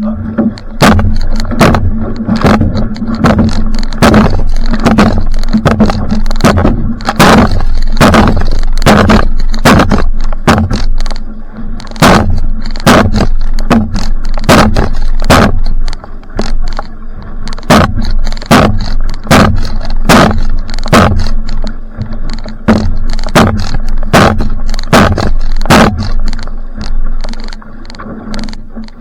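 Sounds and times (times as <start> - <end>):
paddle splashes and knocks: 0.0 - 29.0
rough rushing noise: 0.0 - 29.0.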